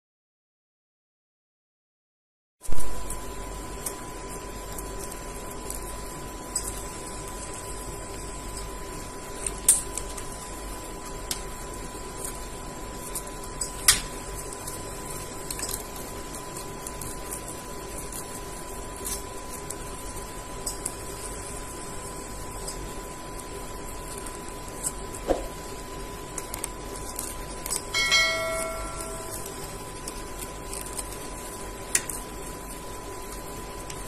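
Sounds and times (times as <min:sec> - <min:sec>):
paper crinkling under beak: 0:02.7 - 0:34.0
steady background hum: 0:02.7 - 0:34.0.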